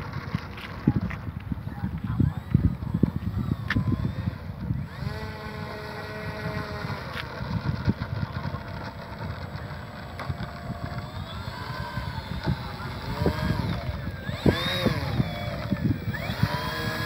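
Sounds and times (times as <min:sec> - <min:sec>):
electric motor whine: 0:00.0 - 0:17.0
wind buffeting microphone: 0:00.0 - 0:17.0.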